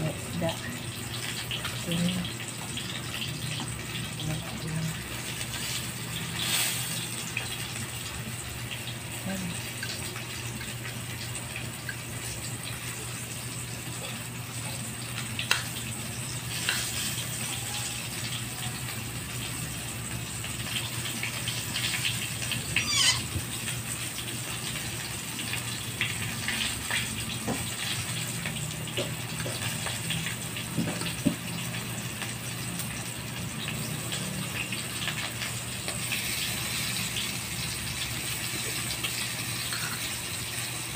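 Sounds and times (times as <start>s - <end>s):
fish frying in hot oil: 0.0s - 40.9s.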